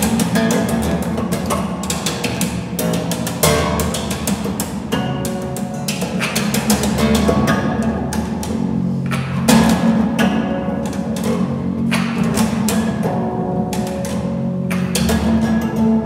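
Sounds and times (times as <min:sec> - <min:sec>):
bass guitar slaps and low notes: 0:00.0 - 0:16.0.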